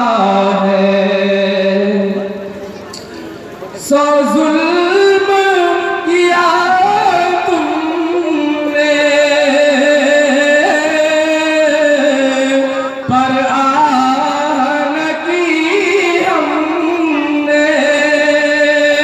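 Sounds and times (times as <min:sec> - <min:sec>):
man singing into a microphone: 0:00.0 - 0:02.8, 0:03.7 - 0:19.0.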